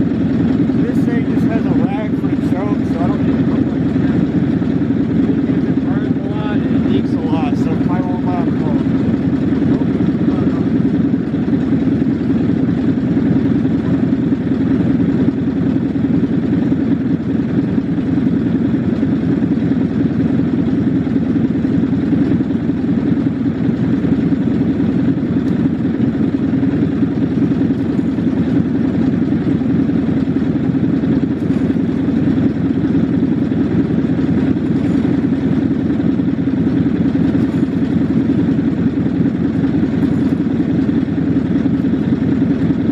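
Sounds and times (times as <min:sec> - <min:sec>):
lawn mower engine running: 0:00.0 - 0:42.9.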